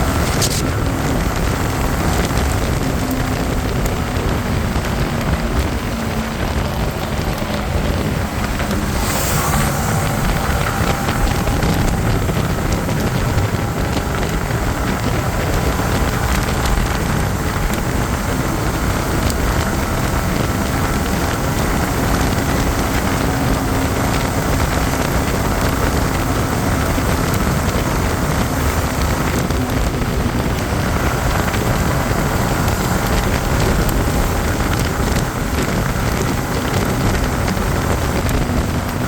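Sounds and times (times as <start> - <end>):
motorcycle engine droning: 0.0 - 39.0
wind buffeting microphone: 0.0 - 39.0.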